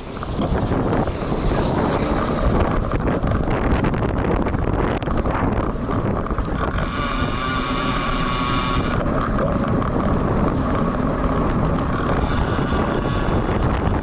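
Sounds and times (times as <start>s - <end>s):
steady high whine: 0.0s - 14.0s
wind buffeting microphone: 0.0s - 14.0s.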